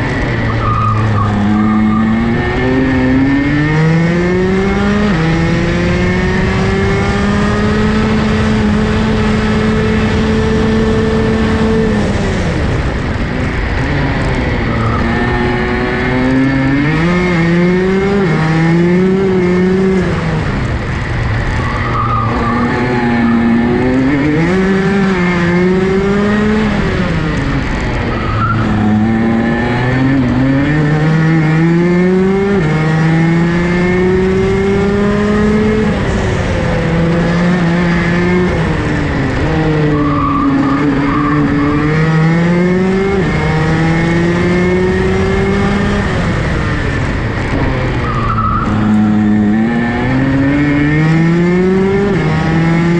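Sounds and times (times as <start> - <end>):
kart engine at racing speed: 0.0 - 52.9.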